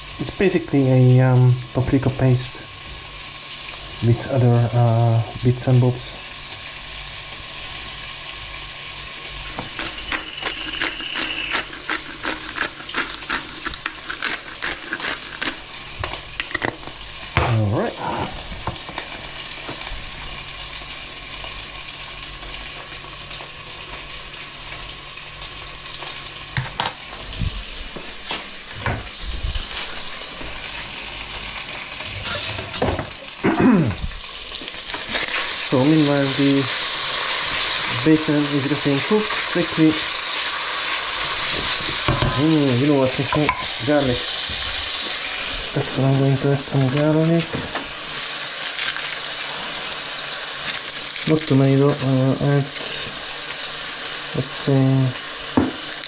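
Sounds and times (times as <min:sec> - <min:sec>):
bacon sizzling in a pan: 0:00.0 - 0:56.0.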